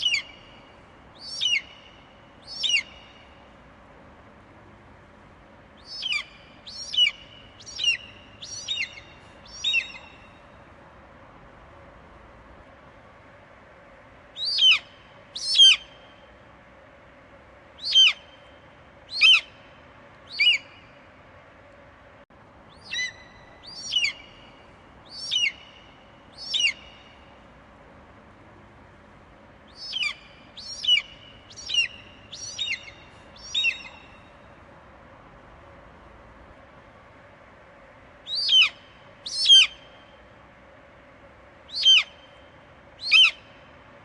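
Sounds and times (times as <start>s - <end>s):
faint steady hiss: 0.0s - 44.0s.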